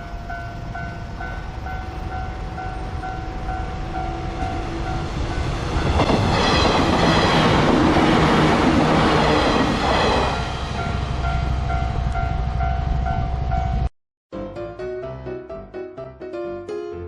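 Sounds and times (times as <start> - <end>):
electric train passing: 0.0 - 13.9.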